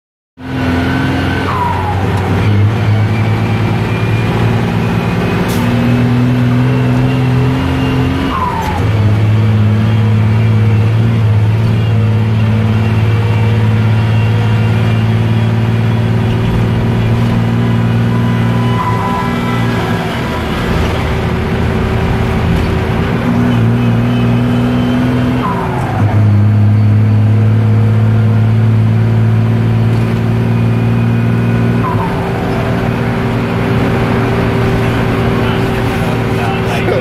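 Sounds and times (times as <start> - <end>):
gear change whine: 0.4 - 37.0
truck engine running: 0.4 - 37.0.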